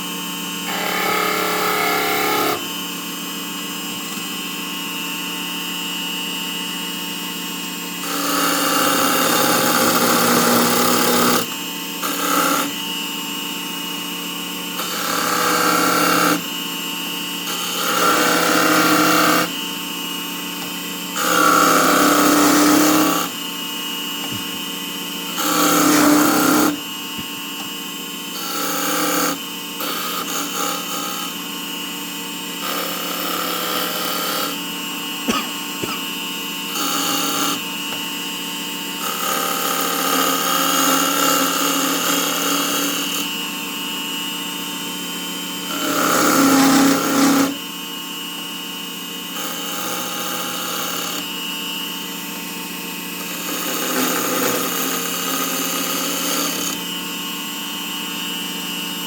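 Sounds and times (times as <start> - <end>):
turning tool cutting wood: 0.0 - 51.4, 53.0 - 57.6
wood lathe motor hum: 0.0 - 59.0.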